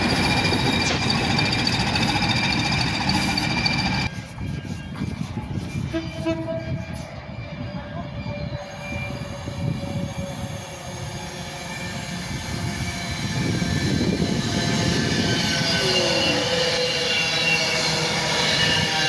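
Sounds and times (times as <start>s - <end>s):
passenger train passing: 0.0s - 19.0s.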